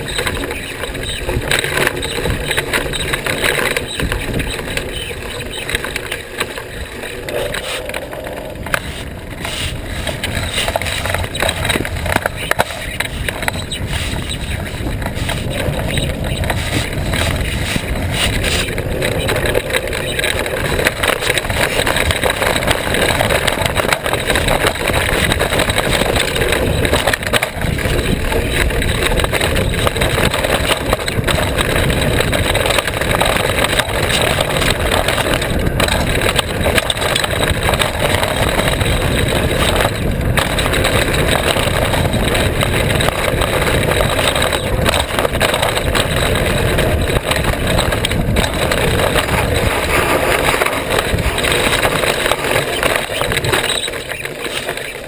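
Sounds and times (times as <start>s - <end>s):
bike rattling and knocking: 0.0s - 55.0s
rush of wind and tyre noise: 0.0s - 55.0s.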